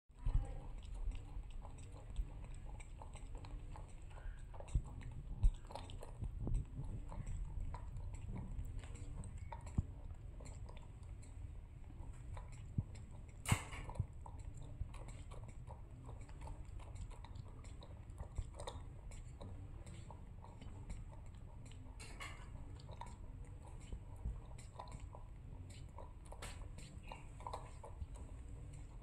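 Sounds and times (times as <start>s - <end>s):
monkey sucking on a straw: 0.3s - 29.0s.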